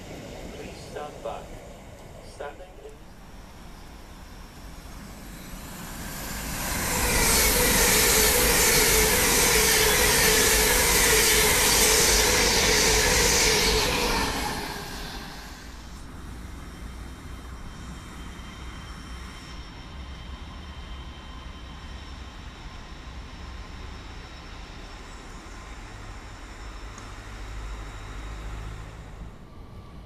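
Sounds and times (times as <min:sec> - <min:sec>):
high-speed train passing: 0:00.0 - 0:30.0.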